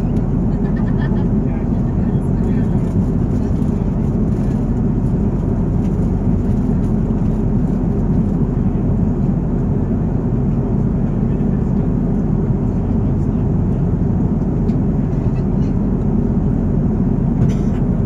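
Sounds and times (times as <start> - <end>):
jet airliner cabin rumble: 0.0 - 18.0.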